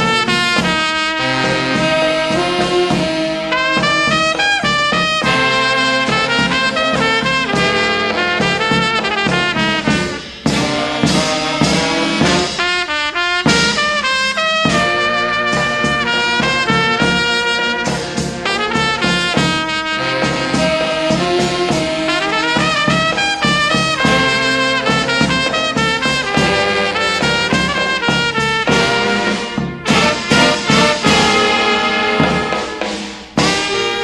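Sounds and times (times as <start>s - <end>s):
cornet melody: 0.0s - 32.8s, 33.4s - 34.0s
lower brass holding notes: 0.0s - 34.0s.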